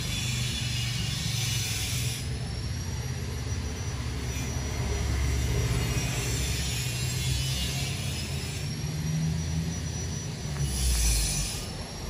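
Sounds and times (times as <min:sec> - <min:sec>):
construction rumble: 0:00.0 - 0:12.0.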